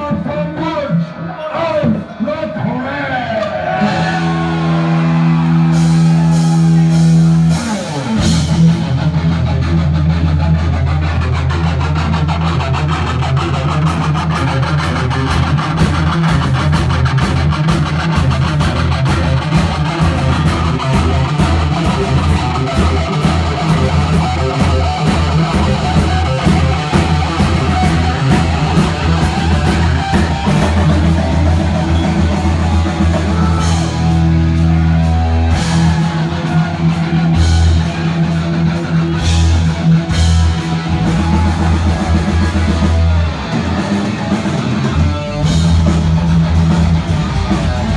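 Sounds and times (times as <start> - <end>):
heavy metal band playing: 0.0 - 47.9
drum kit pounding: 3.9 - 47.9.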